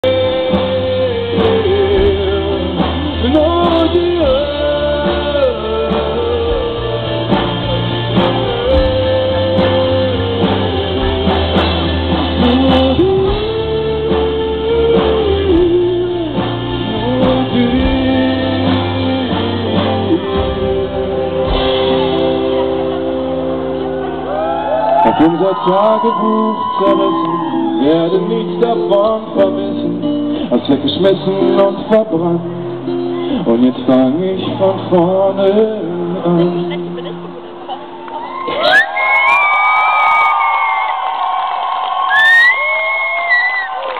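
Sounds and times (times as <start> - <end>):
person singing: 0.0 - 37.8
pop-rock band playing live: 0.0 - 43.9.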